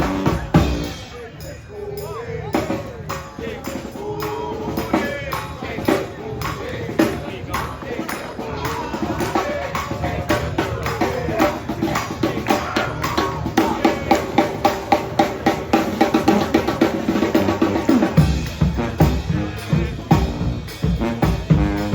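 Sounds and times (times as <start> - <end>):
snare and bass drum beat: 0.0 - 1.2, 2.5 - 21.9
brass band playing: 0.0 - 21.9.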